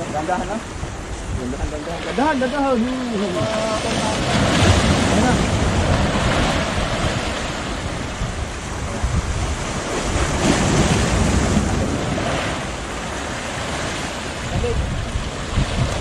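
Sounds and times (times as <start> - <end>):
sea waves washing over rocks: 0.0 - 16.0
wind buffeting microphone: 0.0 - 16.0.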